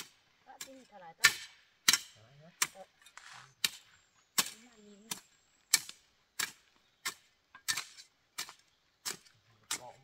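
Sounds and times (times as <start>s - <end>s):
hoe chopping into stony soil: 0.0s - 10.0s.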